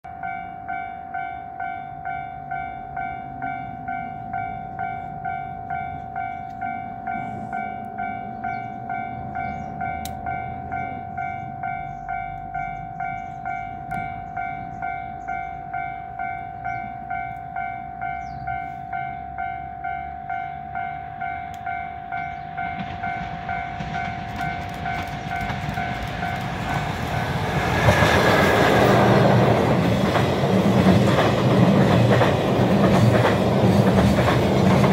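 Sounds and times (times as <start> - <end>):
train rushing and rumbling past: 0.1 - 34.9.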